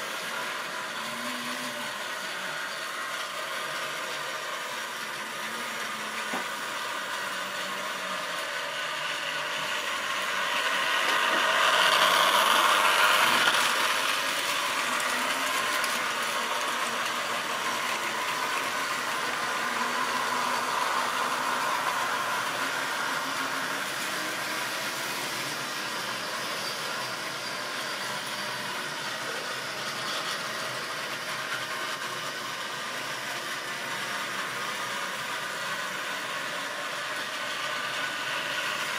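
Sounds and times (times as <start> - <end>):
small electric motors whirring: 0.0 - 38.9.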